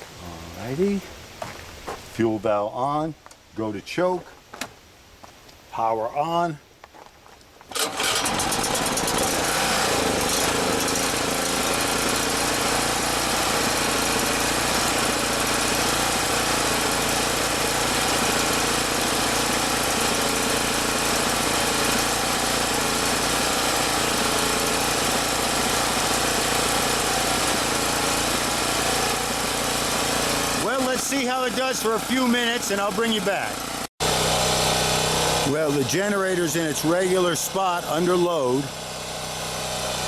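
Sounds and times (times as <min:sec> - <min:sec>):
generator engine running: 0:07.7 - 0:40.0.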